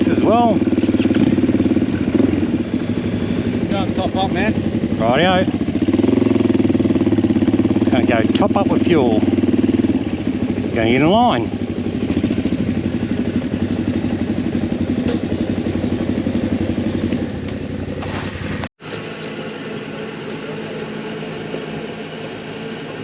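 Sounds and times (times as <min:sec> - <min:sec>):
motorcycle engine idling: 0:00.0 - 0:23.0
quiet steady engine hum: 0:00.0 - 0:23.0.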